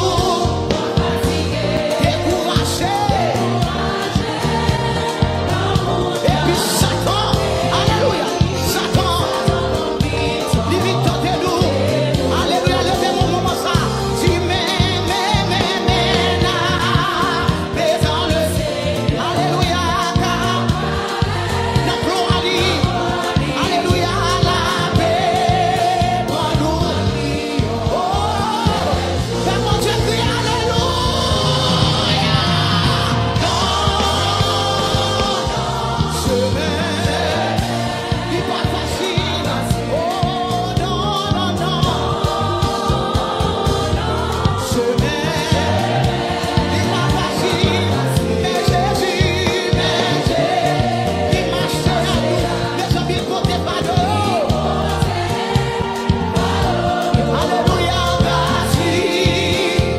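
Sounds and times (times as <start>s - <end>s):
band with bass and beat: 0.0s - 59.9s
choir singing a hymn: 0.0s - 59.9s.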